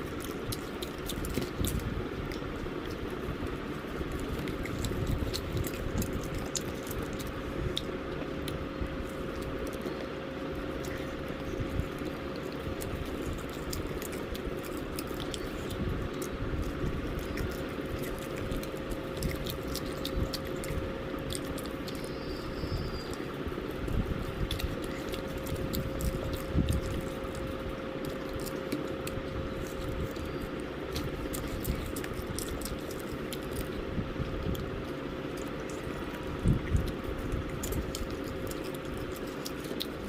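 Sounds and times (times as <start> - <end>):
person chewing fried chicken: 0.0 - 40.0
steady hum: 0.0 - 40.0.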